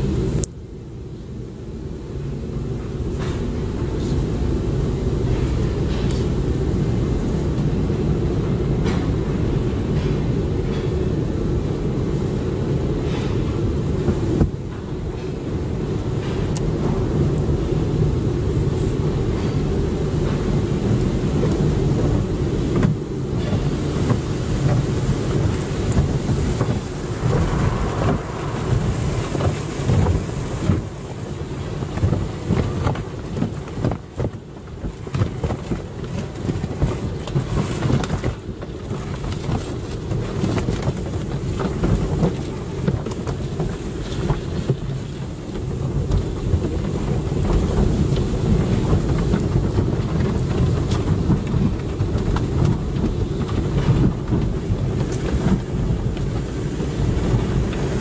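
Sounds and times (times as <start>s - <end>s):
rushing rumbling noise: 0.0s - 58.0s
water spray drumming on car: 11.2s - 58.0s.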